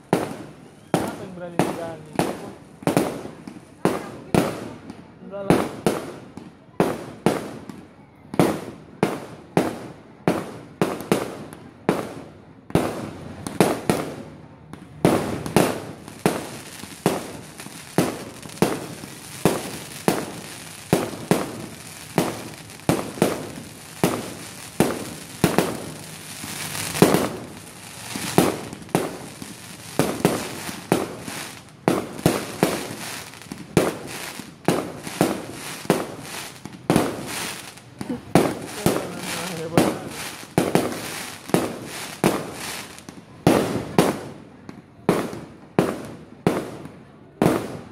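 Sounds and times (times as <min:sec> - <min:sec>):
fireworks bangs: 0:00.0 - 0:47.9
fireworks crackling: 0:00.0 - 0:47.9.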